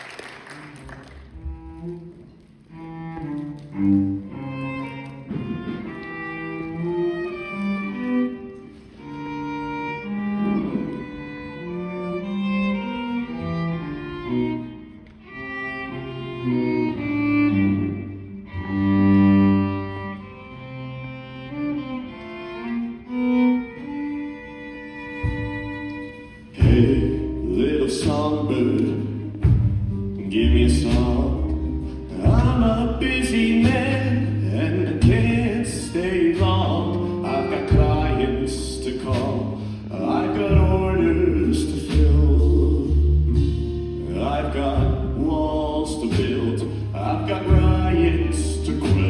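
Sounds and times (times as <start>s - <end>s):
cello and violin melody: 0.0s - 49.0s
slow orchestral instrumental: 0.0s - 49.0s.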